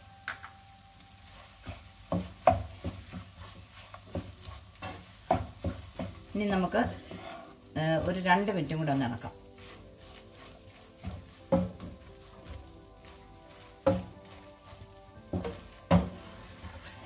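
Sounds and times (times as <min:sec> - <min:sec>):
light sizzling: 0:00.0 - 0:17.0
spatula scraping a frying pan: 0:01.2 - 0:17.0.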